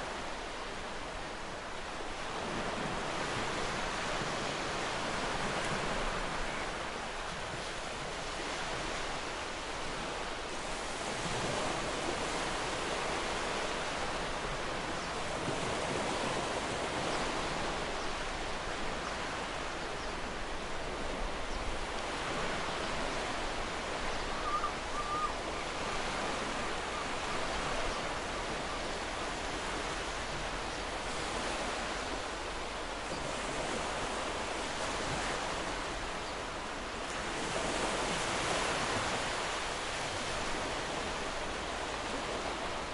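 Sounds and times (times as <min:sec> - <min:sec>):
sea waves washing on shore: 0:00.0 - 0:42.9.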